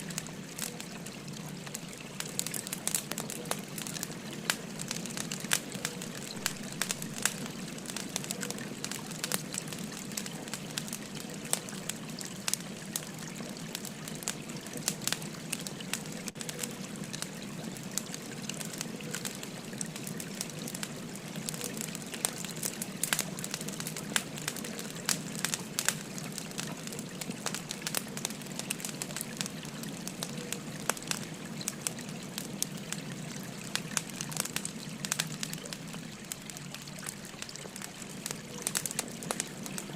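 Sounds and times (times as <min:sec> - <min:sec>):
stream babbling: 0:00.0 - 0:39.9
wood fire crackling: 0:00.0 - 0:39.9.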